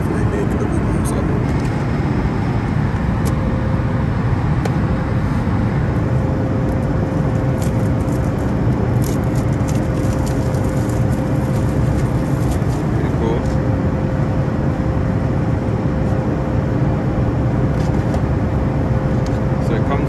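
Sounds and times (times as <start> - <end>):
vehicle interior rumble: 0.0 - 20.0.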